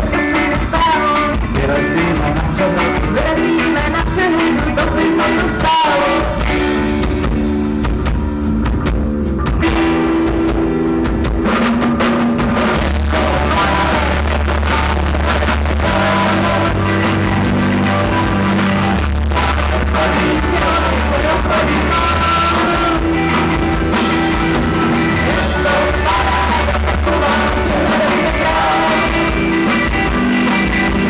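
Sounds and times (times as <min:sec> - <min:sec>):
live rock band playing: 0:00.0 - 0:31.0
steady bass line: 0:00.0 - 0:31.0.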